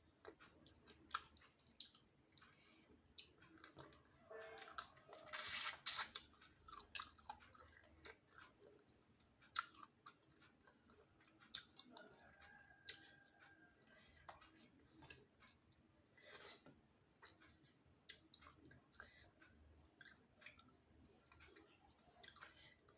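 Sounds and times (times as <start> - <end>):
person chewing: 0.2 - 22.9.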